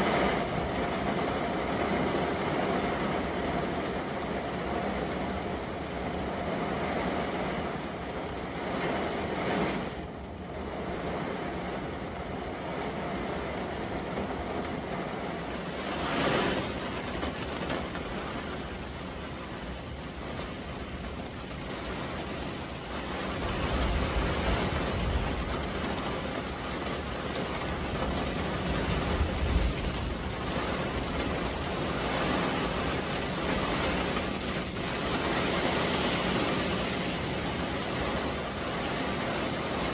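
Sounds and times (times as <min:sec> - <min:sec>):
heavy rain on car roof: 0:00.0 - 0:39.9
wind buffeting car: 0:00.0 - 0:39.9.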